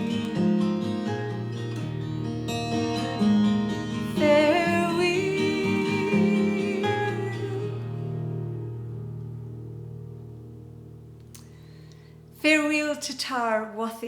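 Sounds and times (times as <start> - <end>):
acoustic guitar chords: 0.0 - 13.6.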